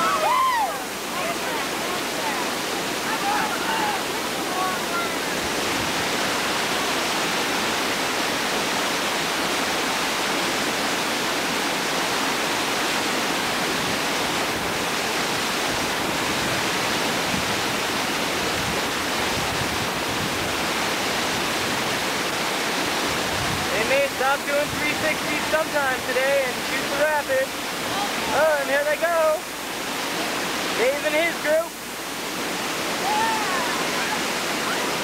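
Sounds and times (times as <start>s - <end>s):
river rapids rushing: 0.0s - 35.0s.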